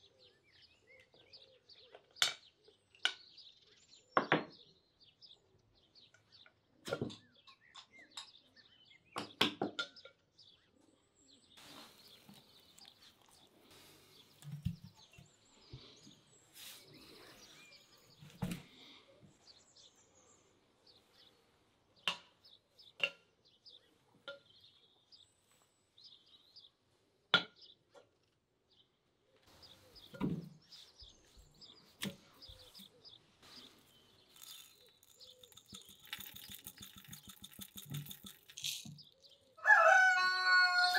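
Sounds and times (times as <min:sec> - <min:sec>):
faint birds chirping: 0:00.0 - 0:40.9.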